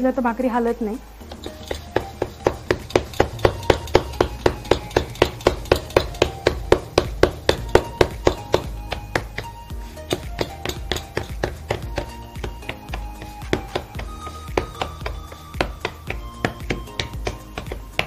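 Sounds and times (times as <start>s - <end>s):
palms patting dough: 1.2s - 18.0s.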